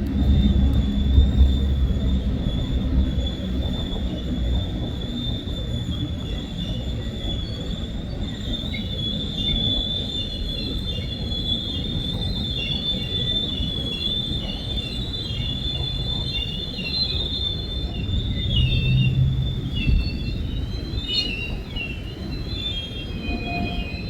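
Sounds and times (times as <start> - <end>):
train rumble: 0.0 - 24.0
train wheels squealing: 0.0 - 24.0
wavering squeal: 0.0 - 24.0.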